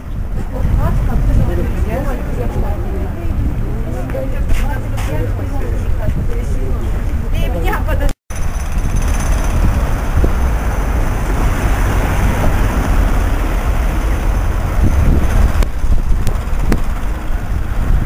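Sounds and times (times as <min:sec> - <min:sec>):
street traffic: 0:00.0 - 0:18.0
wind rumbling on microphone: 0:00.0 - 0:18.0.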